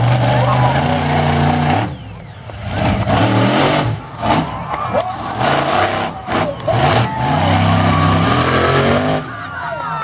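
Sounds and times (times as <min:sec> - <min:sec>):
monster truck engine revving: 0:00.0 - 0:09.6
crowd voices: 0:00.0 - 0:10.0.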